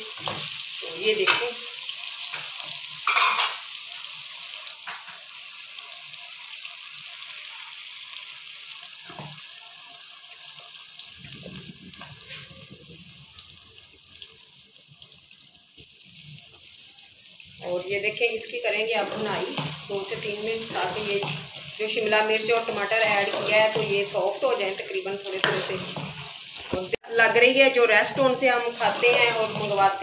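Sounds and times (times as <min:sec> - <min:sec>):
gravy sizzling in a pot: 0:00.0 - 0:30.0.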